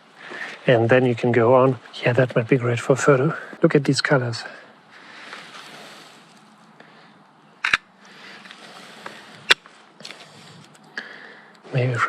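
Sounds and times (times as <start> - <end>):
faint outdoor rustle: 0.0 - 12.0.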